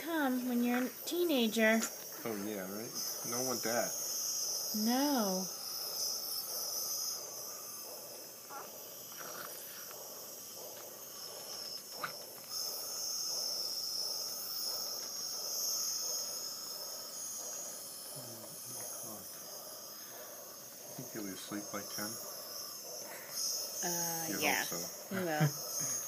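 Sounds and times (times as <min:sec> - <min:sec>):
nebulizer hissing with high whine: 0:00.0 - 0:26.0.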